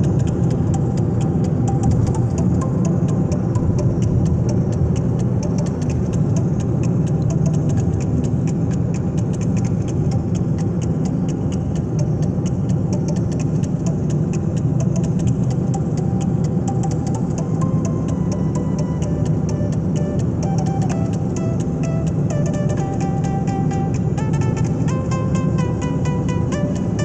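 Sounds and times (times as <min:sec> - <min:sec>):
fast even ticking: 0:00.0 - 0:27.0.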